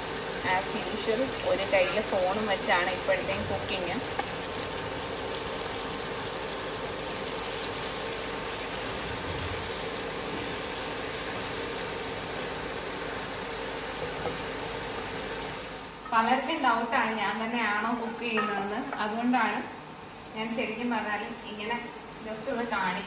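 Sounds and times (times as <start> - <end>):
prawns sizzling in oil: 0.0 - 23.0.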